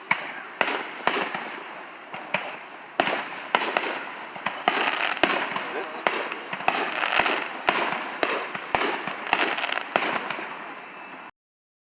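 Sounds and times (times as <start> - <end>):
fireworks bangs: 0.0 - 11.3
fireworks crackling: 0.0 - 11.3.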